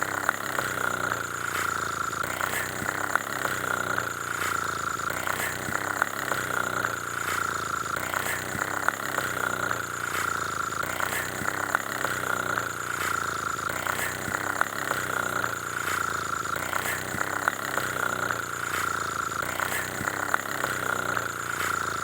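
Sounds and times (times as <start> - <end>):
engine-like idling with whine: 0.0 - 22.0.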